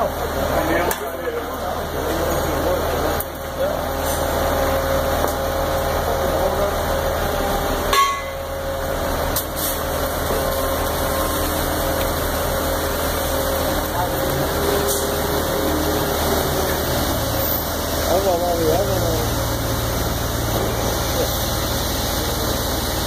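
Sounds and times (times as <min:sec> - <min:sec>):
concrete mixer truck running: 0:00.0 - 0:23.0
concrete pouring down steel chute: 0:00.0 - 0:23.0.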